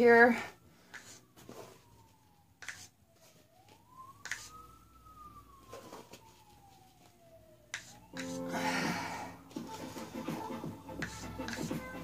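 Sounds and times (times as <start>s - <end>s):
faint siren wailing: 0.0s - 12.0s.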